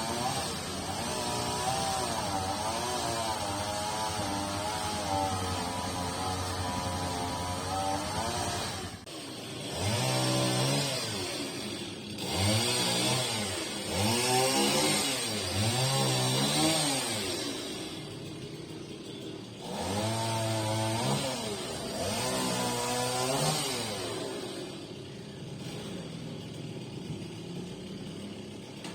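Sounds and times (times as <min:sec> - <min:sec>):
chainsaw engine revving: 0:00.0 - 0:28.9.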